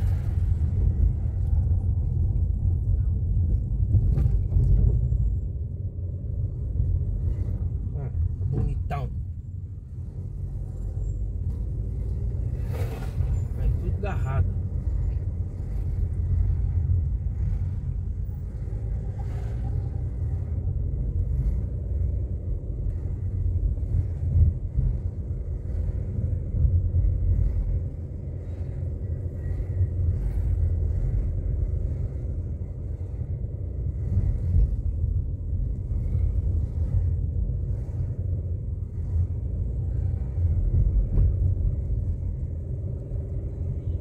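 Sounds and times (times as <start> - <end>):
car engine rumble: 0.0 - 44.0
road noise: 0.0 - 44.0.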